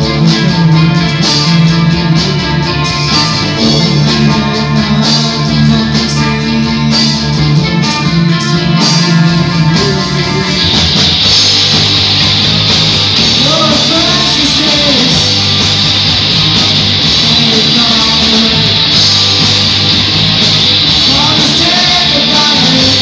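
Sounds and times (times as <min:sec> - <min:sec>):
bass guitar: 0:00.0 - 0:23.0
drum kit: 0:00.0 - 0:23.0
electric guitars: 0:00.0 - 0:23.0.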